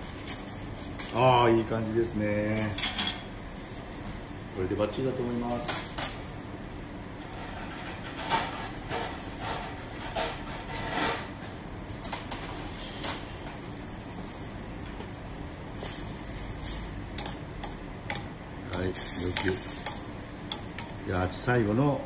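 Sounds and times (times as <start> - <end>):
water boiling in a saucepan: 0.0 - 22.0.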